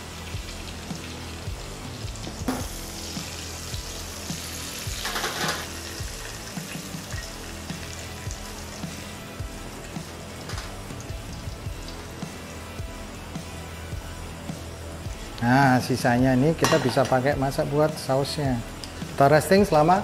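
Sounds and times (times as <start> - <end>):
butter sizzling in frying pan: 0.0 - 20.0.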